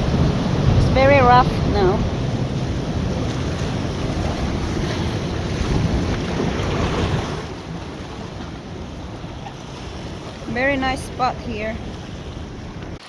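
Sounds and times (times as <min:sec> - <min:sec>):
rough surf: 0:00.0 - 0:13.0
wind buffeting microphone: 0:00.0 - 0:13.0.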